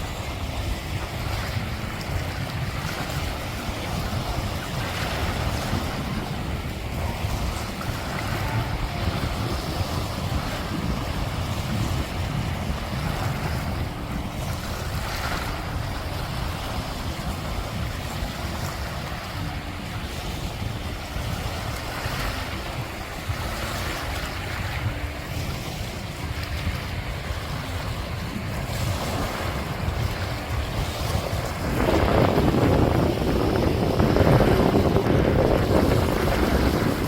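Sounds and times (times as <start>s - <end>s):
sea surf washing on shore: 0.0s - 37.0s
wind buffeting microphone: 0.0s - 37.0s.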